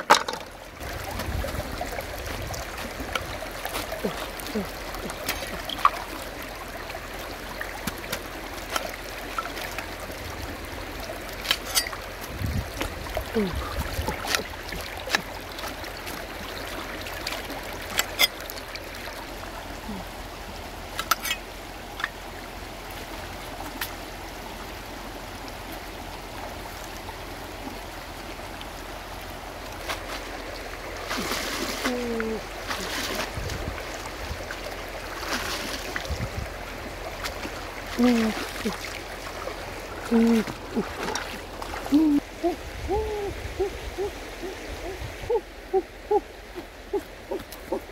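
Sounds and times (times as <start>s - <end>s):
stream running over rocks: 0.0s - 47.9s.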